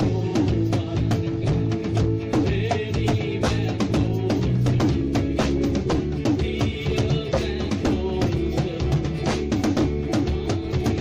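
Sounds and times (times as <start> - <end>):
drum kit beat: 0.0 - 11.0
live band music: 0.0 - 11.0.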